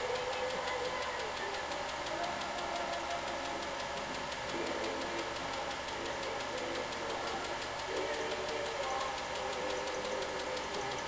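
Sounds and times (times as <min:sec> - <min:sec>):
film projector mechanical ticking: 0:00.0 - 0:11.0
projector motor hum: 0:00.0 - 0:11.0.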